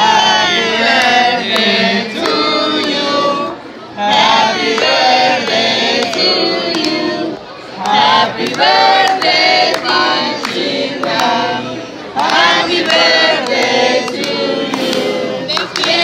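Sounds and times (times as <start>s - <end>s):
group singing a celebration song: 0.0s - 16.0s.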